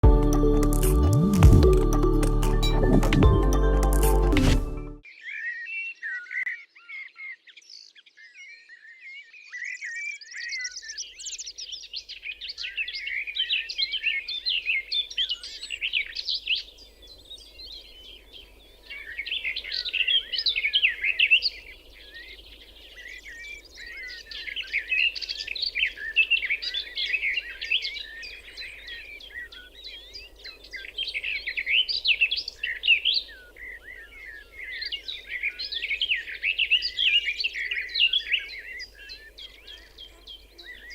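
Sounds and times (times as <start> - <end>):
songbirds chirping and trilling: 5.0 - 40.9.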